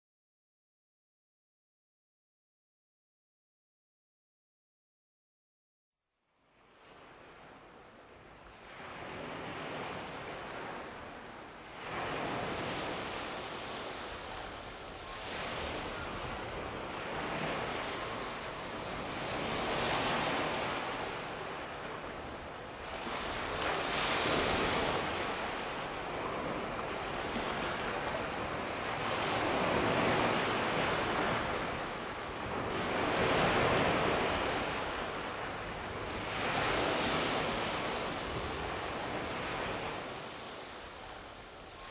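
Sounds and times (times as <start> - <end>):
waves washing onto shore: 6.6 - 41.9.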